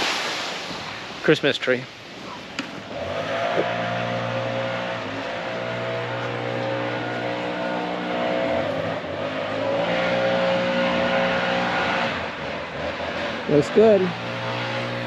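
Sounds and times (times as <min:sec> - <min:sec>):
engine running steadily: 0:00.8 - 0:15.0.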